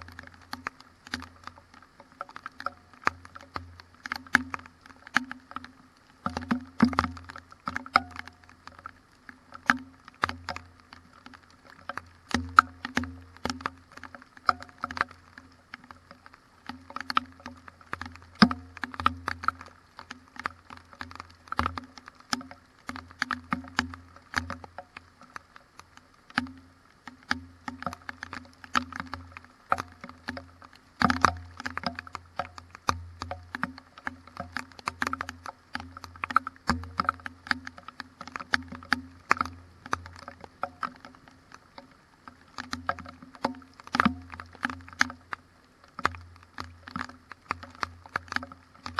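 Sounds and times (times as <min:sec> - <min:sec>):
raindrops pattering: 0:00.0 - 0:48.9.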